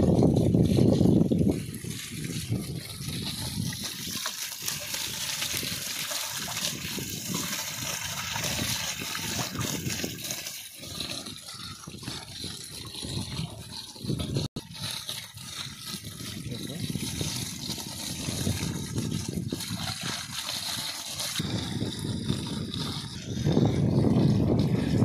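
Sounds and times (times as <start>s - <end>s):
water gushing and splashing: 0.0s - 25.0s.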